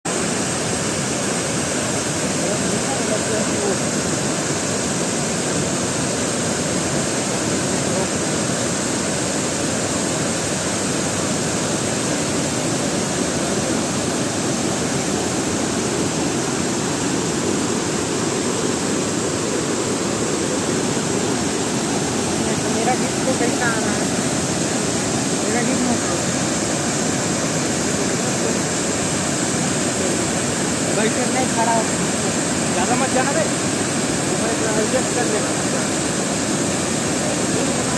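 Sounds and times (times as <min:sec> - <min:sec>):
waterfall rushing: 0:00.1 - 0:37.9.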